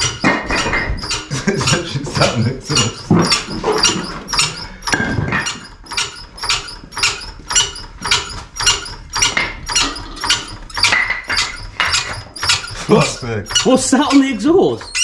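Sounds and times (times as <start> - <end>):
trolley jack squeaky clicks: 0.0 - 15.0.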